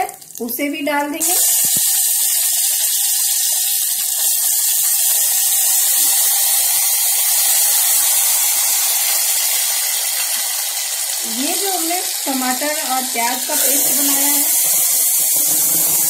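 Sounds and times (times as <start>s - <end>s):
paste sizzling in hot oil: 1.2s - 16.0s.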